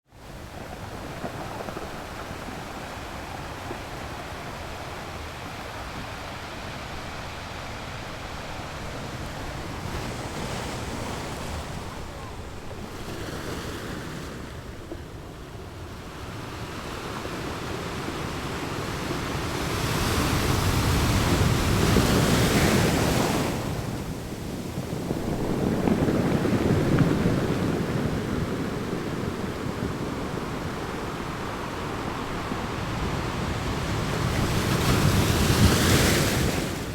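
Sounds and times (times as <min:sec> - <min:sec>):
ocean waves breaking on shore: 0:00.1 - 0:36.9.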